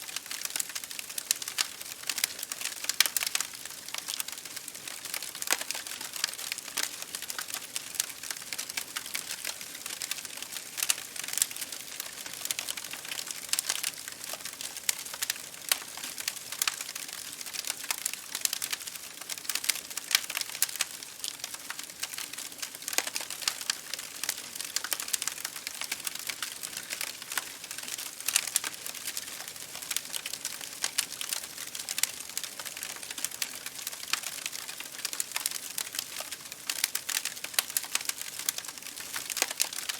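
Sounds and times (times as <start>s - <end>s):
rain pattering on window glass: 0.0s - 39.9s
wood fire crackling: 0.0s - 39.9s.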